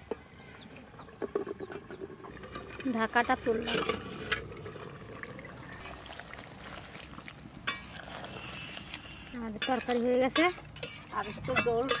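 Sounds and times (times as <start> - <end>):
pot bubbling: 0.1 - 12.0.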